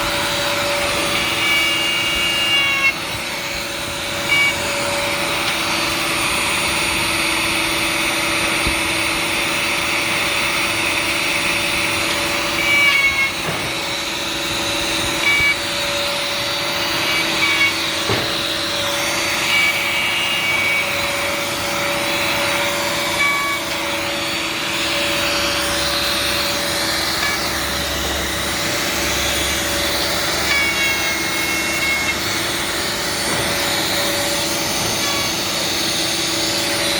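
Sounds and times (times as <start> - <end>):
machine humming: 0.0 - 36.9.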